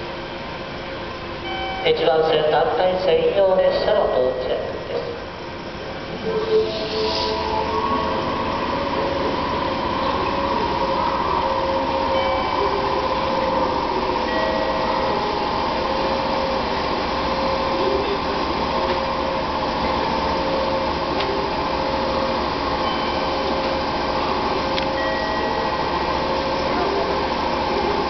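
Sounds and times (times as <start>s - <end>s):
electric train equipment whirring: 4.9s - 28.0s.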